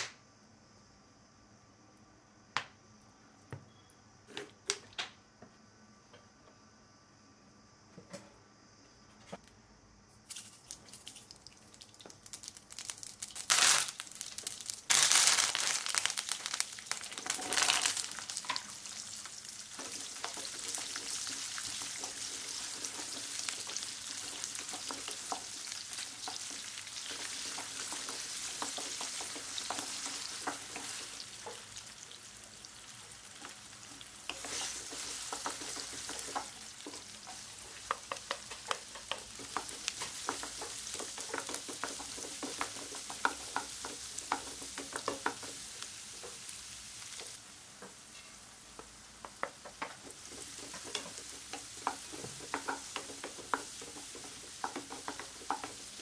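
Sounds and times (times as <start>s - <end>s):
food sizzling in hot oil: 10.3s - 56.0s.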